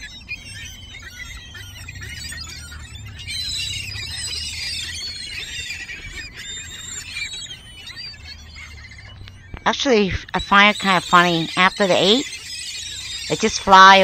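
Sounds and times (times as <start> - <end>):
gulls squeaky calls: 0.0 - 14.0.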